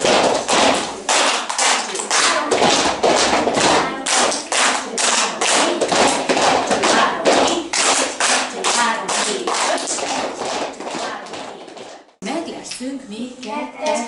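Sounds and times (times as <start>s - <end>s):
feet stomping: 0.0s - 12.2s
people clapping in rhythm: 0.0s - 12.2s.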